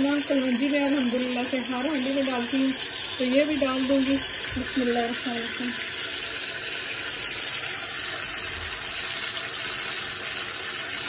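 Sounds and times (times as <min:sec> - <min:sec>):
chicken frying in bubbling oil: 0:00.0 - 0:11.0.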